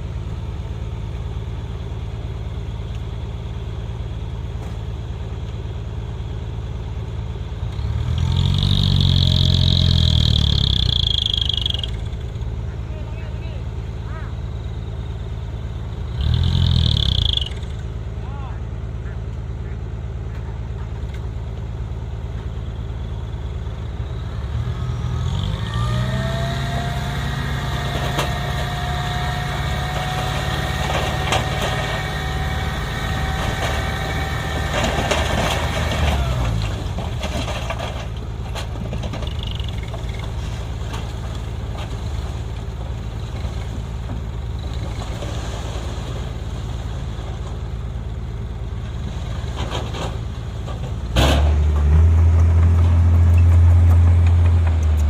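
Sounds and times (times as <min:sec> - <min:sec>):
diesel truck engine idling and revving: 0:00.0 - 0:55.0.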